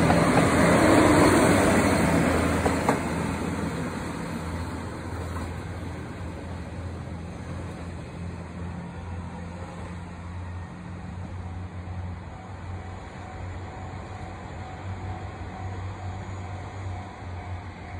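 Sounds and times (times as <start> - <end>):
diesel train pulling away: 0.0 - 17.9.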